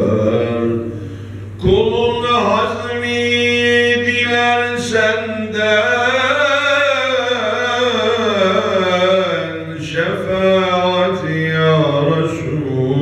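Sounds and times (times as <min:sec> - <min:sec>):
man chanting unaccompanied: 0:00.0 - 0:13.0.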